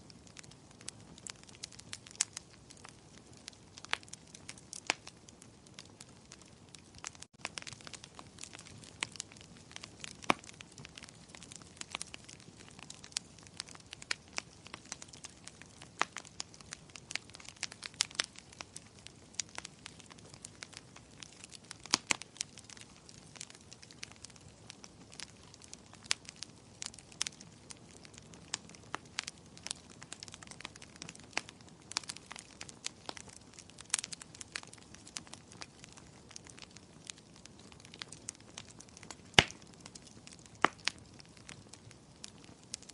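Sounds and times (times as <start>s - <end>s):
fire crackling: 0.0s - 42.9s.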